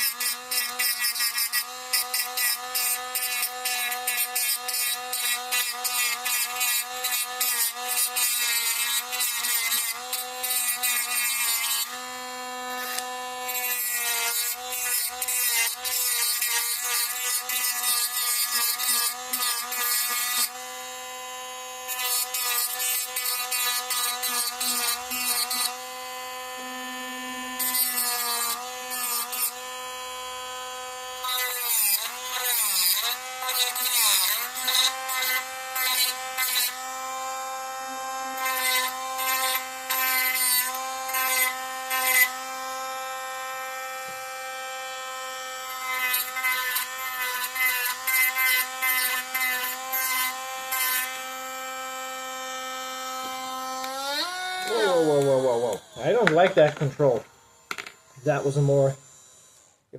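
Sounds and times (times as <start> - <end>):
rotary tool grinding: 0.0 - 59.8
rotary tool whining: 0.0 - 59.9.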